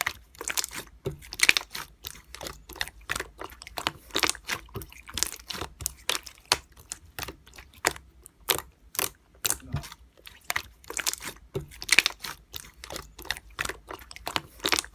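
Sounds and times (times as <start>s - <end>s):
slime clicking and popping: 0.0s - 14.9s.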